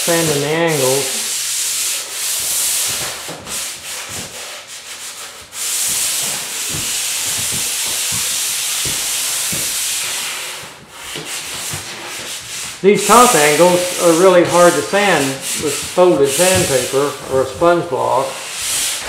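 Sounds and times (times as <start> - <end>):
sandpaper scratching: 0.1 - 19.0.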